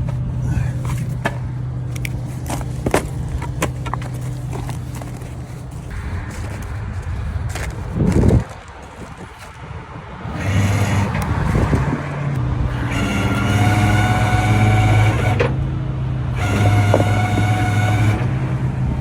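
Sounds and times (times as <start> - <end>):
steady high whine: 0.0 - 19.0
tow truck engine running: 0.0 - 19.0.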